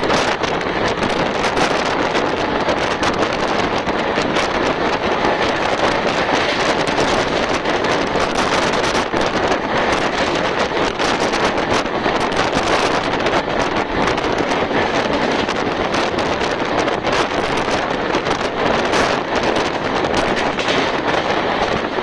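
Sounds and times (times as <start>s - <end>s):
fast train running: 0.0s - 22.0s
wind buffeting microphone: 0.0s - 22.0s.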